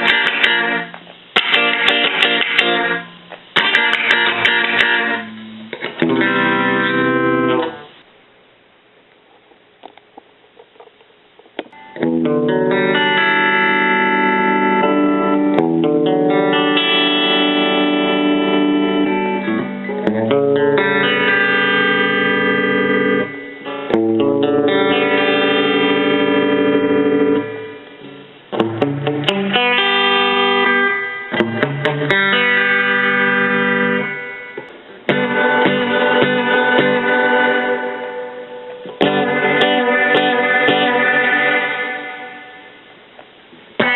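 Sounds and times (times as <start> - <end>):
faint guitar plucks: 0.0 - 7.8, 11.6 - 42.8
electric guitar chords ringing: 0.0 - 8.0, 11.6 - 43.9.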